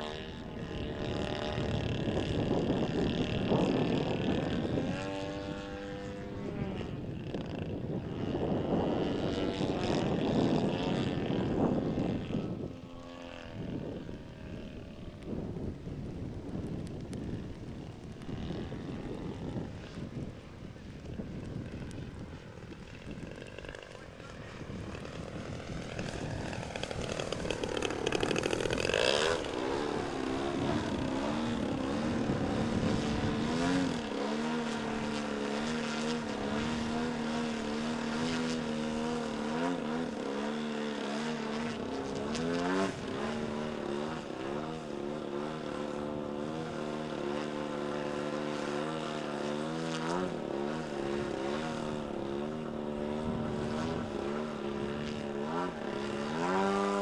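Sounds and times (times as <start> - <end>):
model airplane engine flying by: 0.0 - 57.0.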